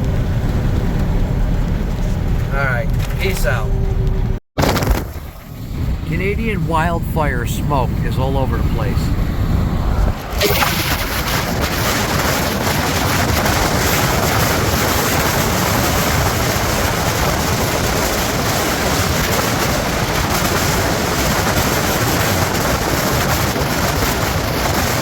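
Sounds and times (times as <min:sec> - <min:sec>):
truck road and wind noise: 0:00.0 - 0:25.0.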